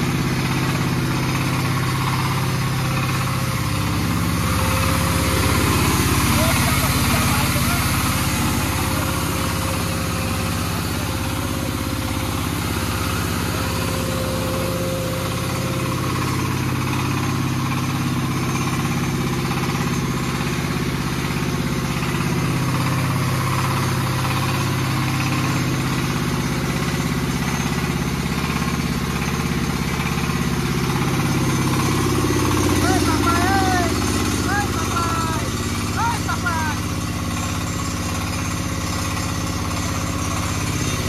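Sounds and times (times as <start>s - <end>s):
diesel engine running: 0.0s - 41.0s
rice mill whirring: 0.0s - 41.0s.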